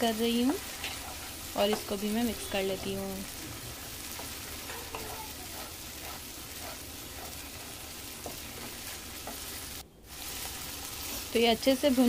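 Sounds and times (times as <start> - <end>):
paste sizzling in oil: 0.0 - 12.0
wooden spatula scraping pan: 0.2 - 11.3.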